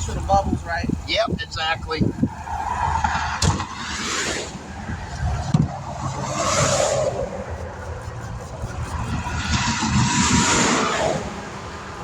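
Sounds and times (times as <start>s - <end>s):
vehicles rushing past: 0.0s - 12.0s.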